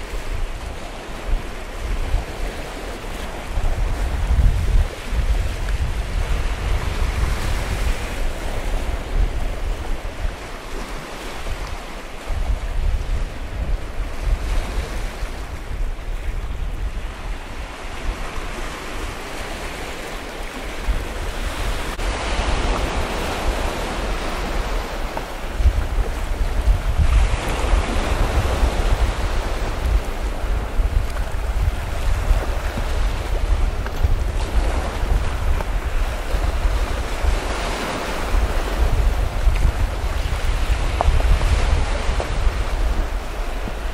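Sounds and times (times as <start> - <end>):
waves breaking on rocky shore: 0.0 - 43.9
wind buffeting microphone: 0.0 - 43.9.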